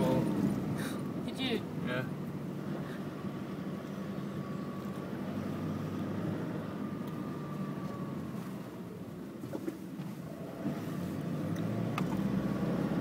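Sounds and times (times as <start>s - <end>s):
vehicle engine drone from inside cab: 0.0s - 13.0s.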